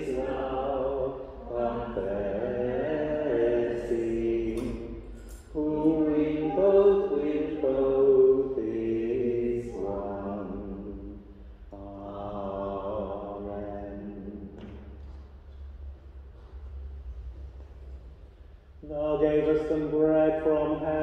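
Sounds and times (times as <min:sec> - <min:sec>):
voices chanting a slow hymn: 0:00.0 - 0:15.4, 0:18.4 - 0:21.0.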